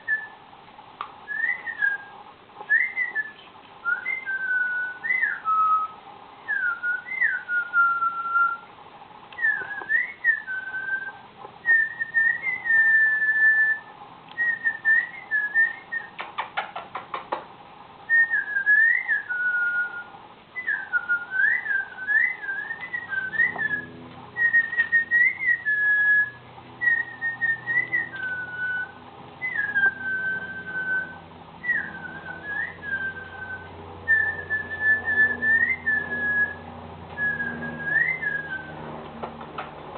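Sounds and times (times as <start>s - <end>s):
cockatiel whistling: 0.0s - 0.4s, 1.2s - 8.7s, 9.4s - 16.9s, 18.1s - 38.8s.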